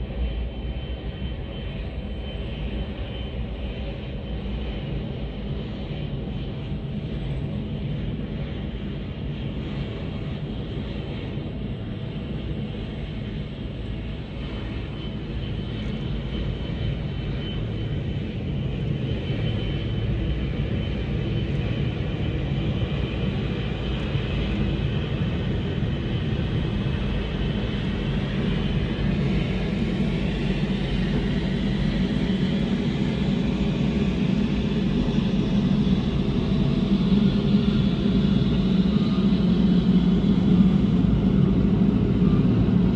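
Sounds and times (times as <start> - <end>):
jet engines rumbling and whining: 0.0 - 42.9.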